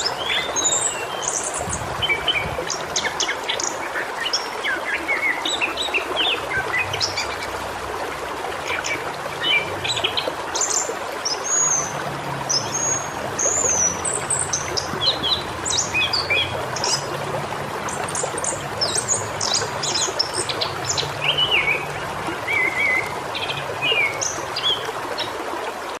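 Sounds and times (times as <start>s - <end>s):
birds chirping and trilling: 0.0s - 7.6s, 8.6s - 17.2s, 17.8s - 25.4s
waterfall rushing: 0.0s - 26.0s.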